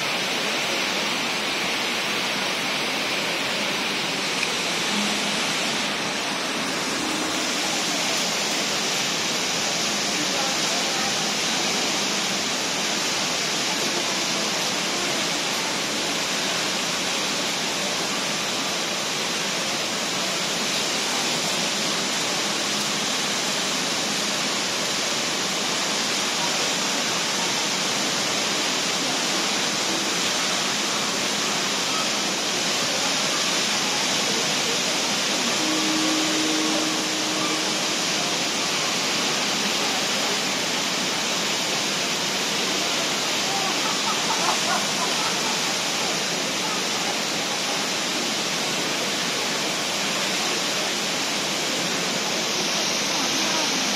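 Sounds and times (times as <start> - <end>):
indoor waterfall rushing: 0.0 - 53.9.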